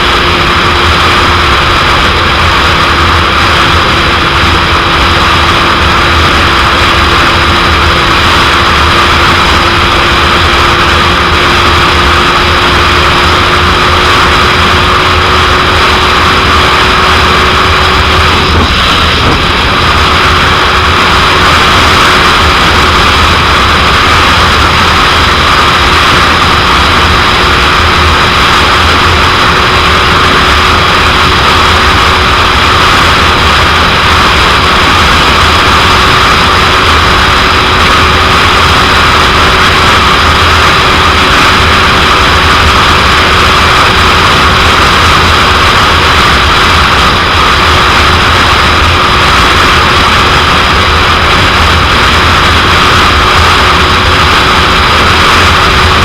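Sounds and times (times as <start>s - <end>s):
motorcycle engine steady note: 0.0s - 56.0s
wind noise over microphone: 0.0s - 56.0s.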